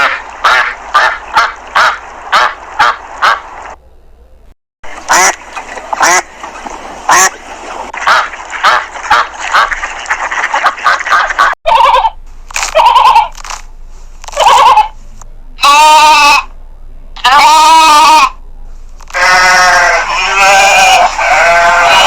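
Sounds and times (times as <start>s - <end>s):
domestic waterfowl calling: 0.0s - 3.8s, 4.9s - 13.3s, 14.4s - 15.0s, 15.6s - 16.5s, 17.2s - 18.4s, 19.1s - 22.0s.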